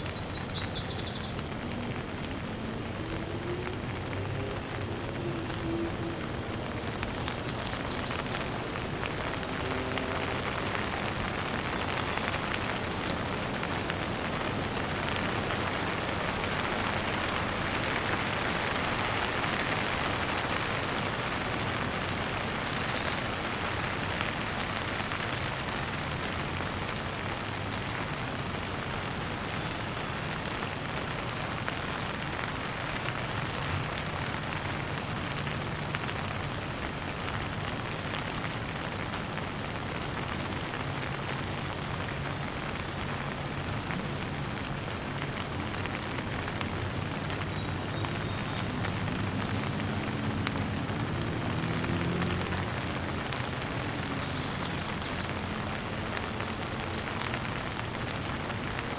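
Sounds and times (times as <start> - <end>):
rain pattering: 0.0 - 58.9.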